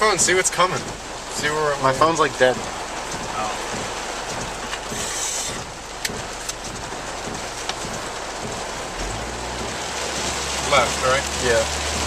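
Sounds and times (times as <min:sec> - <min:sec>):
car hum: 0:00.0 - 0:12.0
heavy rain on a car: 0:00.0 - 0:12.0.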